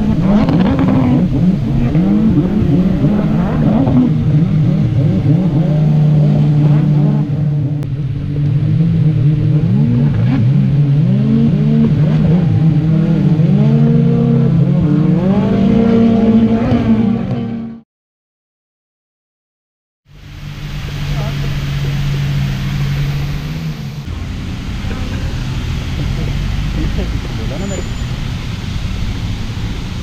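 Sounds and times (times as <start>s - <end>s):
vehicle engine revving: 0.0s - 17.8s, 20.2s - 30.0s.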